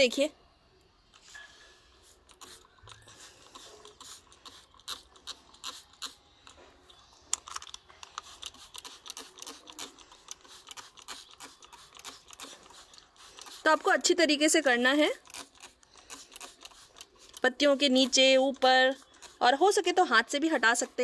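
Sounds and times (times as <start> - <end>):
spray bottle spritzing: 2.0 - 6.2, 7.3 - 21.0.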